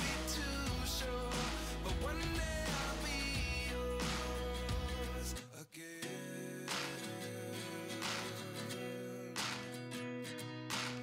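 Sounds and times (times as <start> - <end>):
acoustic guitar chords strummed: 0.0 - 5.4, 6.0 - 11.0.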